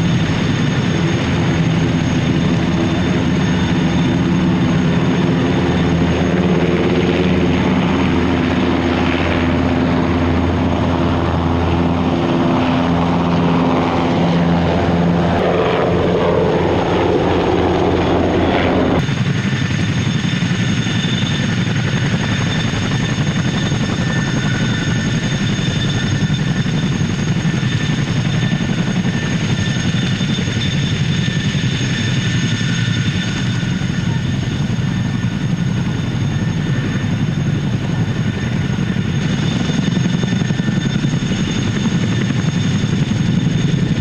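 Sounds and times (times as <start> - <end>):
helicopter rotors turning: 0.0 - 44.0
turbine engines whining: 0.0 - 44.0.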